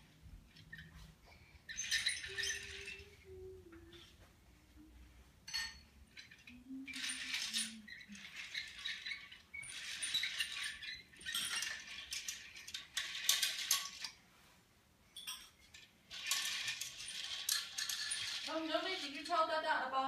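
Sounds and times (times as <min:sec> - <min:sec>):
toy train cars rattling: 0:01.6 - 0:04.3, 0:05.4 - 0:14.2, 0:15.2 - 0:20.0.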